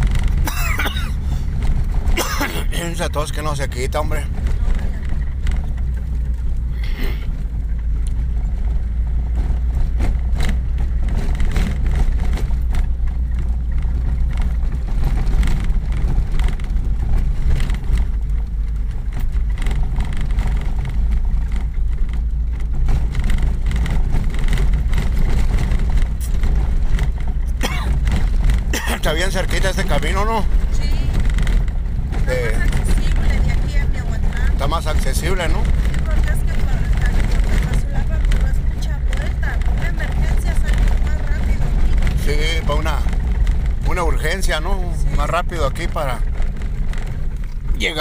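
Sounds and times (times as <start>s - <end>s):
car driving on dirt road: 0.0s - 48.0s
knocks and rattles over bumps: 0.0s - 48.0s.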